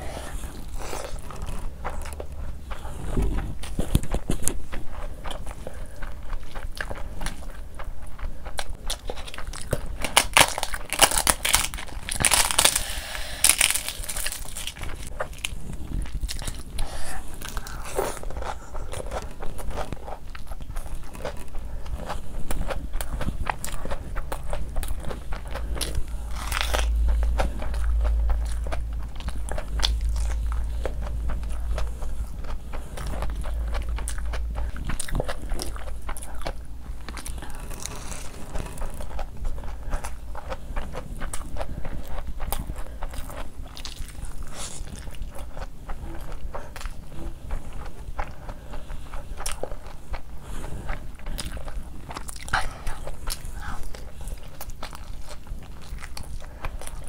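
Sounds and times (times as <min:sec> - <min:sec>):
chewing with mouth full: 0:00.0 - 0:57.0
food crunching: 0:00.0 - 0:57.0.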